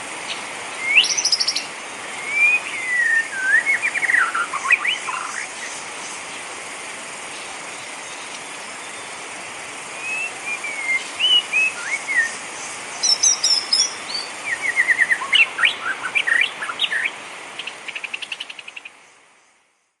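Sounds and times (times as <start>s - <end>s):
songbirds chirping and whistling: 0.0s - 6.5s, 9.9s - 19.4s
rain hissing: 0.0s - 19.8s.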